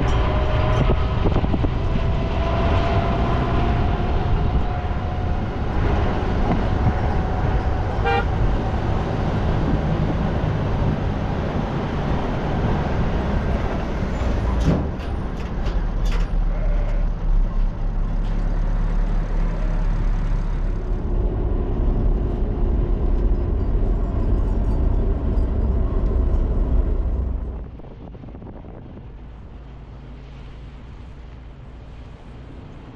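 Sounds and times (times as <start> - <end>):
vehicle engine and road rumble: 0.0 - 32.9.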